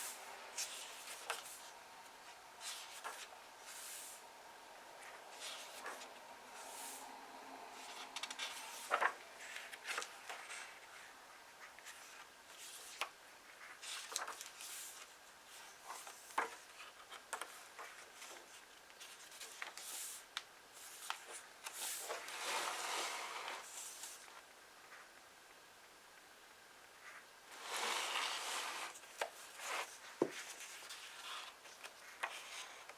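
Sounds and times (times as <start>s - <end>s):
book pages rustling: 0.0s - 4.2s, 5.0s - 7.0s, 7.8s - 25.0s, 27.1s - 32.9s.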